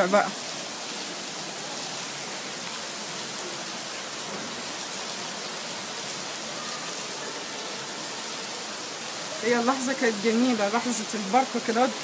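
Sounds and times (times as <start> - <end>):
heavy rain on street: 0.0 - 12.0.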